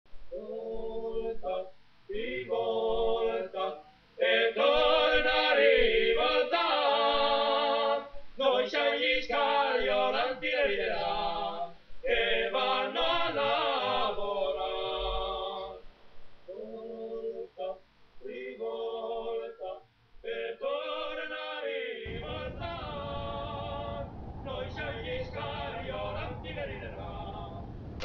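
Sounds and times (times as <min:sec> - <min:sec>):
person singing unaccompanied: 0:00.3 - 0:15.9, 0:16.5 - 0:27.8.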